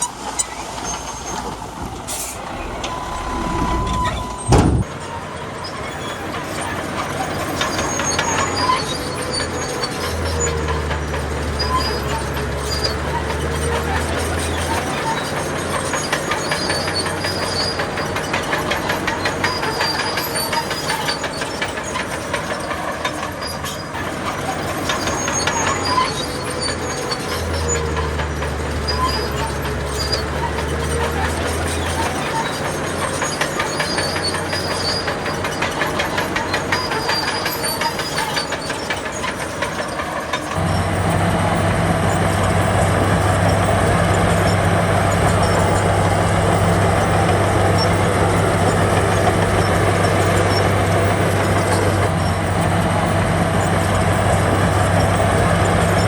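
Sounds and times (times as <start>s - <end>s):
diesel engine hum: 0.0s - 56.0s
crawler tracks clattering: 6.1s - 56.0s.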